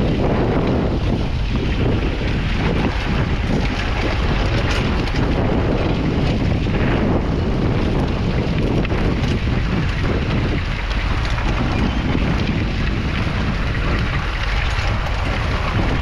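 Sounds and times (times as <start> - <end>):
tractor diesel engine running: 0.0 - 16.0
wind buffeting microphone: 0.0 - 16.0.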